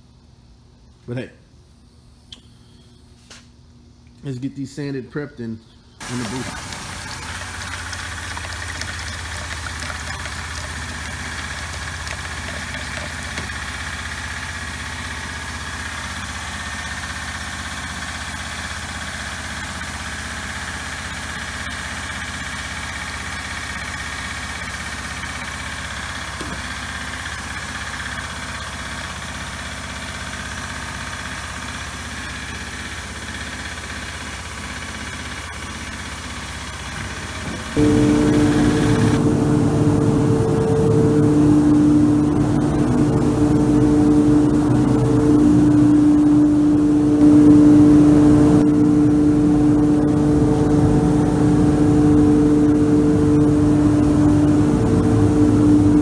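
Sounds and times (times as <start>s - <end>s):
motor humming with faint whine: 0.0s - 27.9s, 37.0s - 56.0s.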